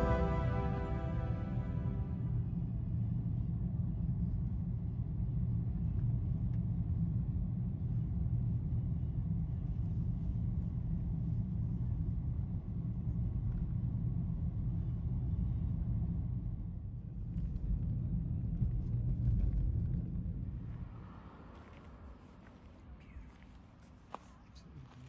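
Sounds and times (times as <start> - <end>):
car road and engine rumble: 3.4 - 25.0.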